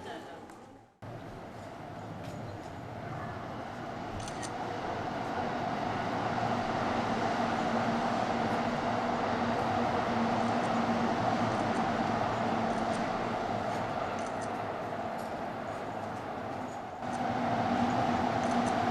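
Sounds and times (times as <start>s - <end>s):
train approaching: 1.0s - 18.9s.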